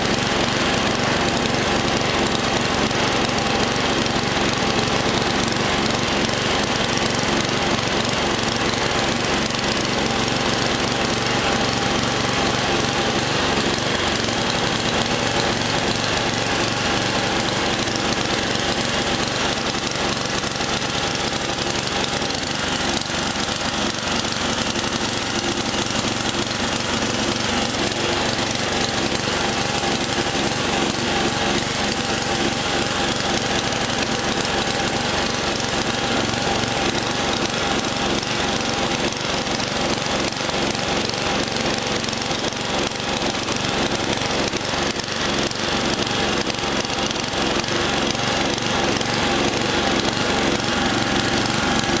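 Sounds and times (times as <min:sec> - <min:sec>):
lawn tractor engine running: 0:00.0 - 0:52.0.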